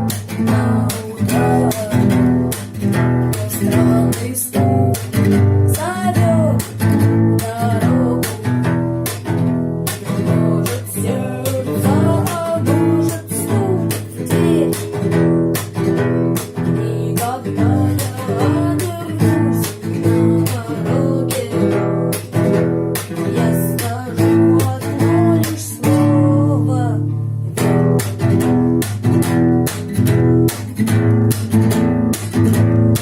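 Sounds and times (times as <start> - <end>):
guitar rock music: 0.0 - 33.0.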